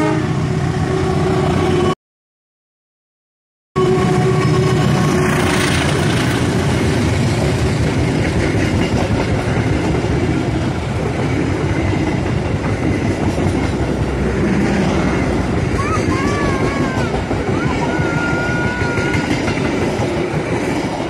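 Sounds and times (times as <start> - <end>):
diesel locomotive engine tones: 3.8 - 21.0
train wheels rolling on rails: 4.1 - 21.0.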